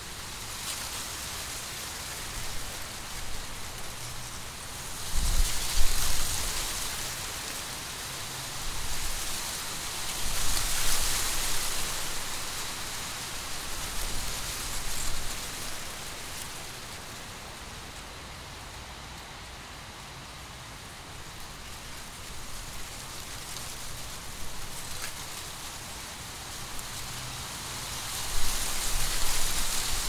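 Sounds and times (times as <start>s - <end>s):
dry corn stalks rustling: 0.0s - 18.2s, 21.1s - 30.0s.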